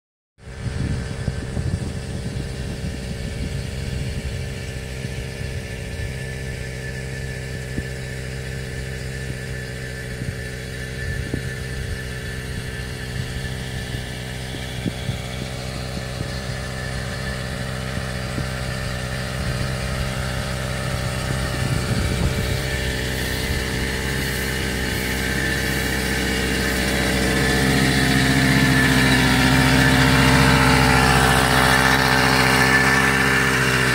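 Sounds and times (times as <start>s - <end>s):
small engine running: 0.4s - 33.9s.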